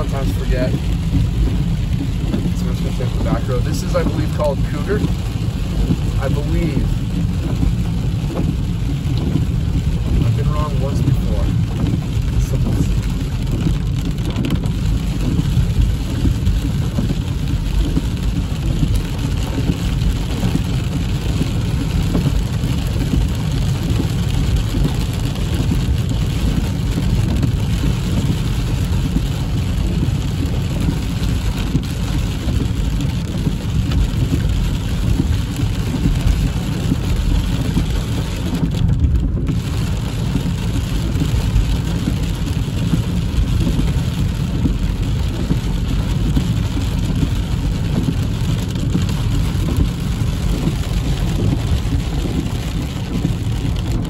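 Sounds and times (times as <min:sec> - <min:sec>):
car driving on wet road: 0:00.0 - 0:54.0
heavy rain on car roof: 0:00.0 - 0:54.0.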